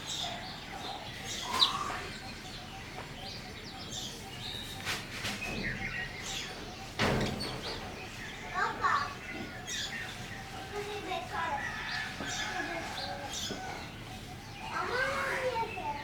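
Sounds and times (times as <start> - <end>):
sparrow chirping: 0.0 - 16.0.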